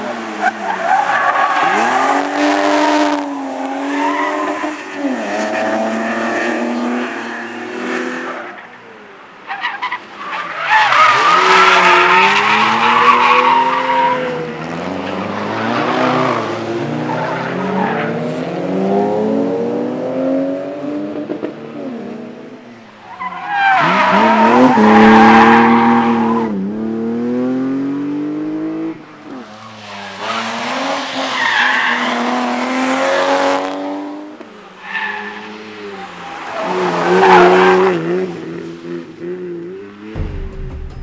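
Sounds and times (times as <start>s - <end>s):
rally car engines revving: 0.0s - 40.2s.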